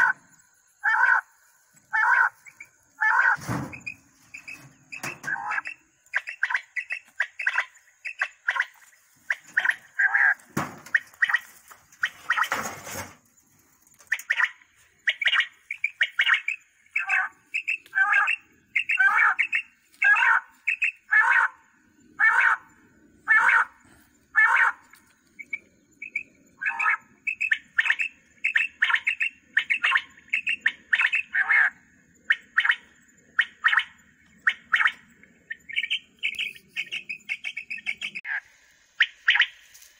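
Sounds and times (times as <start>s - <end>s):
quail calls through loudspeaker: 0.8s - 1.2s, 1.9s - 2.4s, 3.0s - 8.7s, 9.3s - 12.7s, 14.1s - 21.6s, 22.2s - 24.8s, 26.0s - 38.4s, 39.0s - 39.6s.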